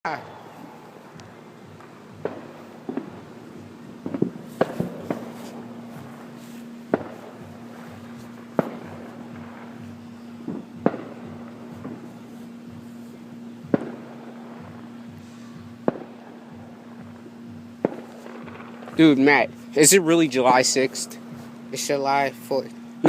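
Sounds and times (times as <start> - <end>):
fireworks bangs: 0.1 - 12.3, 13.6 - 21.9.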